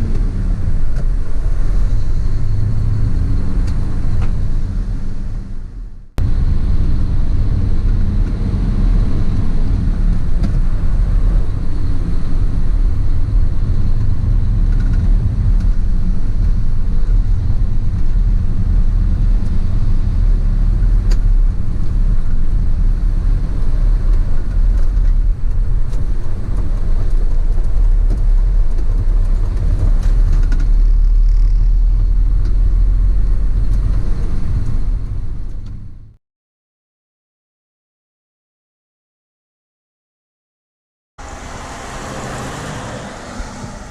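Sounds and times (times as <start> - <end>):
road noise: 0.0 - 36.2, 41.2 - 43.9
vehicle engine rumble: 0.0 - 36.2, 41.2 - 43.9.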